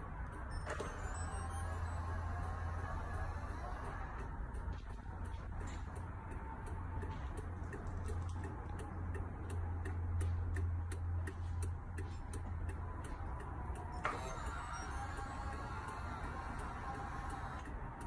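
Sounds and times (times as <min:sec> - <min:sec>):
turn signal flasher ticking: 0:00.0 - 0:18.0.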